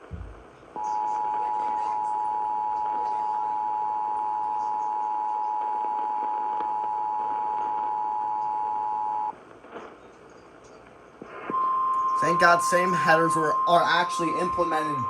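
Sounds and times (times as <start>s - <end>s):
faint radio hiss: 0.0s - 15.0s.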